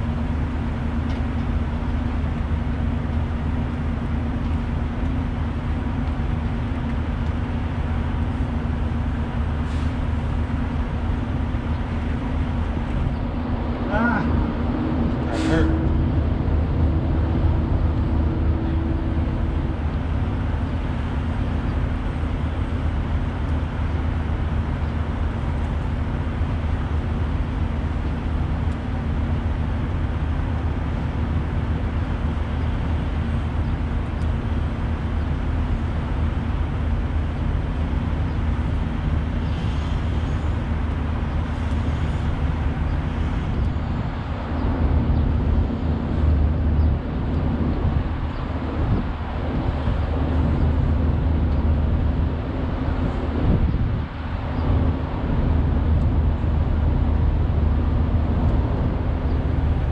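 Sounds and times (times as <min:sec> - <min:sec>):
deep engine hum: 0:00.0 - 0:59.9
low traffic rumble: 0:00.0 - 0:59.9.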